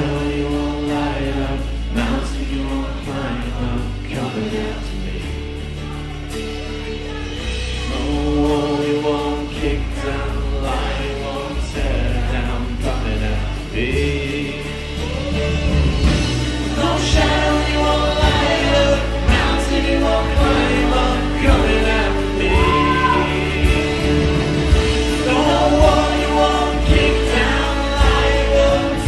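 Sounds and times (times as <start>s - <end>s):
man singing: 0.0s - 6.4s, 7.2s - 29.0s
acoustic guitar: 0.0s - 29.0s
bass line: 0.0s - 29.0s
drums: 0.0s - 29.0s.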